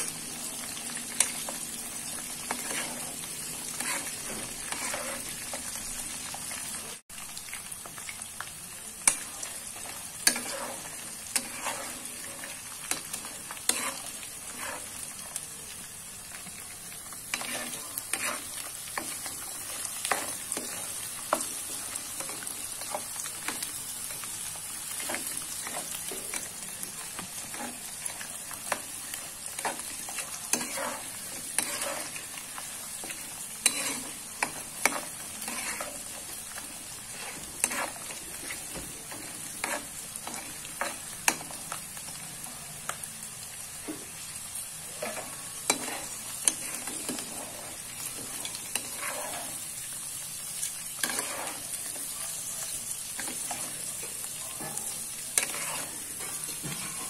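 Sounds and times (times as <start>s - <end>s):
beans sizzling in hot oil: 0.0s - 57.0s
spatula scraping and clacking on pan: 0.5s - 6.0s, 9.0s - 15.2s, 16.6s - 24.2s, 24.9s - 42.1s, 44.9s - 49.9s, 50.5s - 52.2s, 53.0s - 57.0s.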